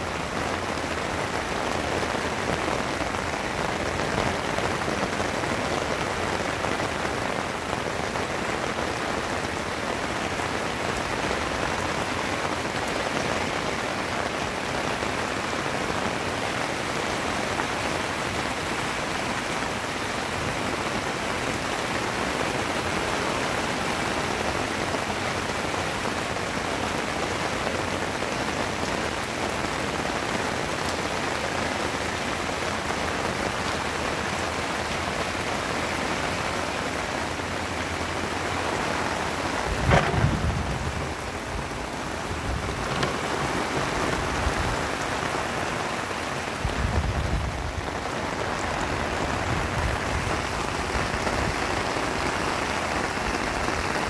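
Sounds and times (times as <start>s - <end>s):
heavy rain falling on trees: 0.0s - 54.0s.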